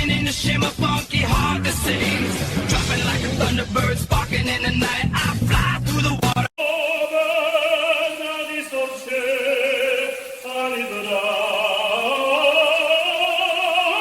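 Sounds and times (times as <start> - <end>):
operatic singing voice: 0.0 - 14.0.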